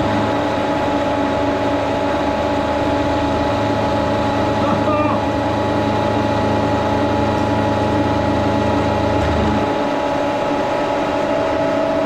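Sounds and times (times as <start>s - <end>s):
milling machine hum and whine: 0.0s - 12.0s.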